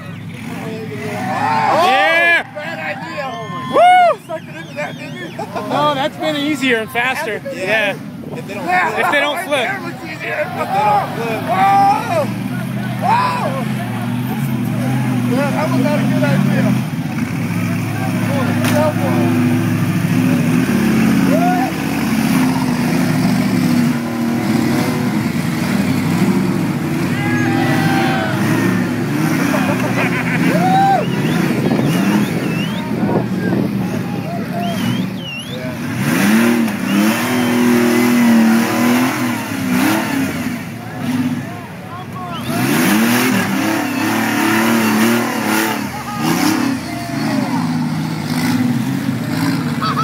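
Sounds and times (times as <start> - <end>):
buggy engines revving unevenly: 0.0 - 50.0.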